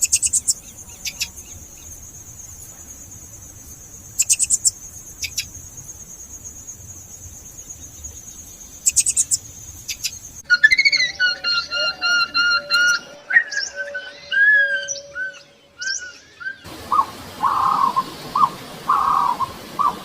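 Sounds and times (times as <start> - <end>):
rapid chirping bursts: 0.0 - 13.2, 16.6 - 20.0
cricket trilling: 0.0 - 20.0.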